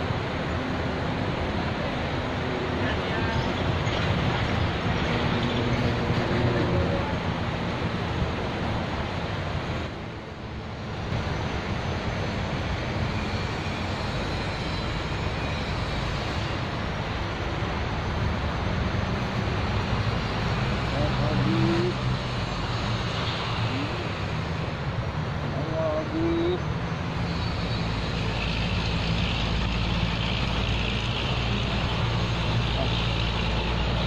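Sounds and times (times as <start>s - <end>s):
traffic rumble and hiss: 0.0s - 34.0s.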